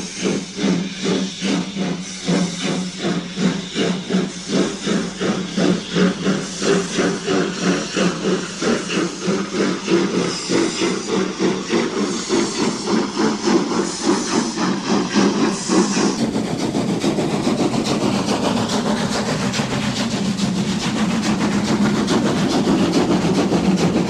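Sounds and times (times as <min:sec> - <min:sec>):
steam hissing from cylinders: 0:00.0 - 0:24.0
steam locomotive exhaust beating: 0:00.0 - 0:24.0.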